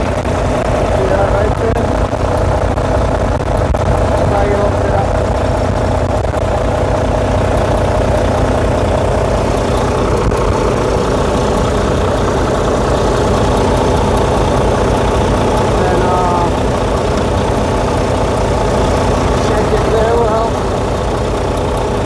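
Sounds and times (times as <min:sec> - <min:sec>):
air conditioning running: 0:00.0 - 0:22.0
diesel engine idling: 0:00.0 - 0:22.0.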